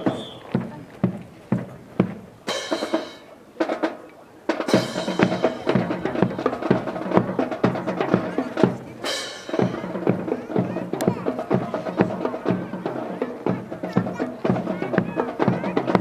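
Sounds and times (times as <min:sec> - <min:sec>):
music with drums: 0:00.0 - 0:16.0.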